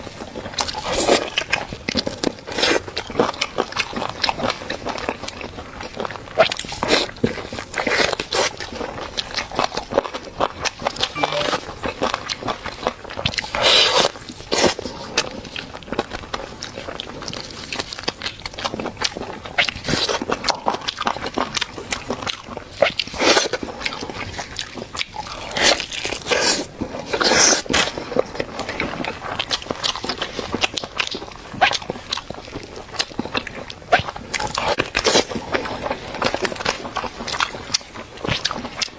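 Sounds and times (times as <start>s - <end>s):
wet chewing and crunching: 0.0s - 11.2s, 11.9s - 38.9s.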